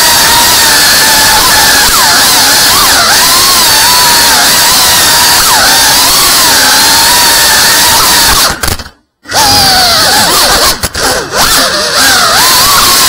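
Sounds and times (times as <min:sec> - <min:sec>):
quadcopter motors whining: 0:00.0 - 0:08.6, 0:09.3 - 0:13.0.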